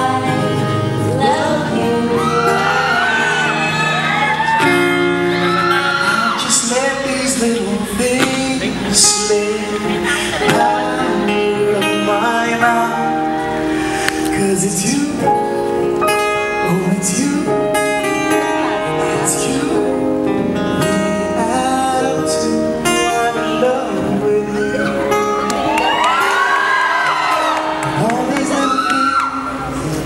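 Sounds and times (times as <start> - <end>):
man singing: 0.0 - 3.6, 5.8 - 25.5, 27.6 - 30.0
acoustic guitar: 0.0 - 30.0.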